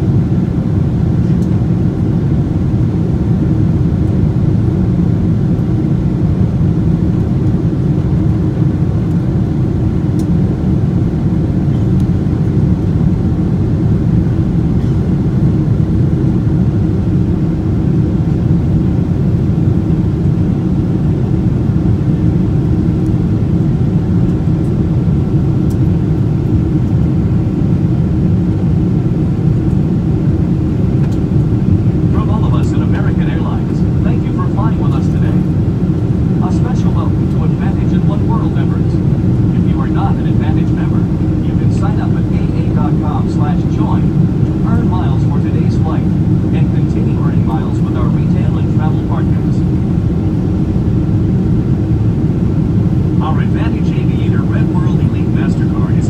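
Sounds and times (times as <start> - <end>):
faint even hum: 0.0 - 56.0
jet engine and airflow rush: 0.0 - 56.0.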